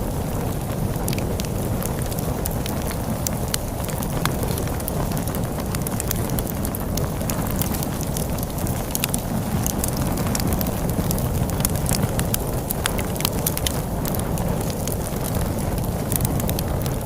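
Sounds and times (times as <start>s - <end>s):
storm wind rumbling: 0.0s - 17.0s
wood fire crackling: 0.0s - 17.0s.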